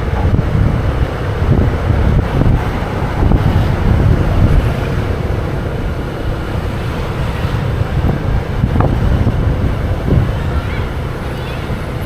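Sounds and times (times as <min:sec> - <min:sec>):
motorbike engine: 0:00.0 - 0:12.0
wind rushing past microphone: 0:00.0 - 0:12.0.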